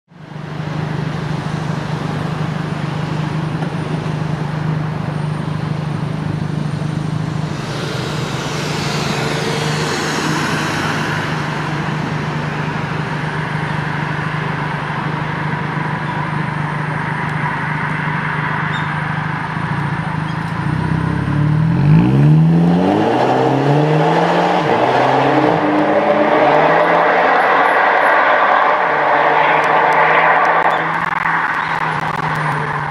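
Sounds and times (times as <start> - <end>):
car exhaust idling and revving: 0.2 - 32.9.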